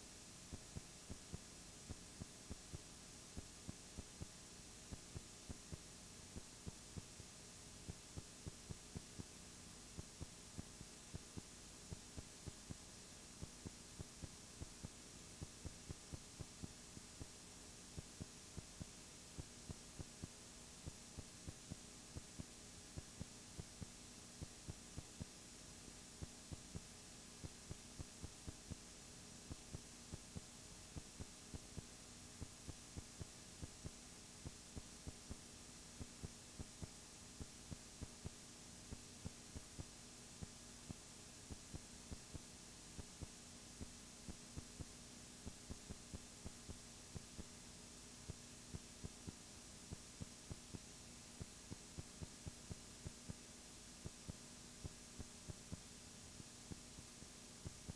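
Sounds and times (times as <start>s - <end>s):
low electrical hum: 0.0s - 57.9s
faint irregular clicks: 0.4s - 57.9s.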